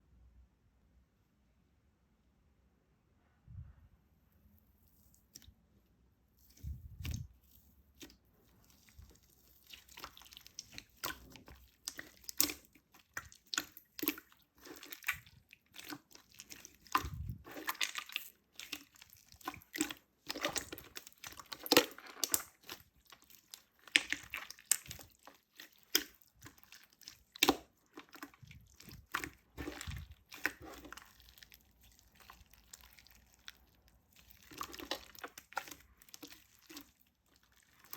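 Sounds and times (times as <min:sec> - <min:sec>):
slime squished by hand: 0:06.3 - 0:37.9.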